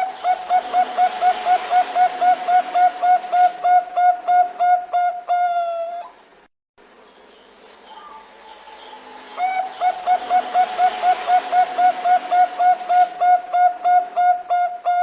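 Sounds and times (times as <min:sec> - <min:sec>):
dove cooing: 0:00.0 - 0:06.2, 0:07.9 - 0:15.0
faint steady hum: 0:00.0 - 0:15.0.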